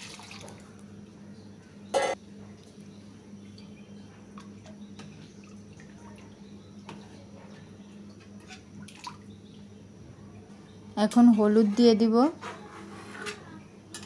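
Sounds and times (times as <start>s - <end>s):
steady low hum: 0.1s - 12.2s.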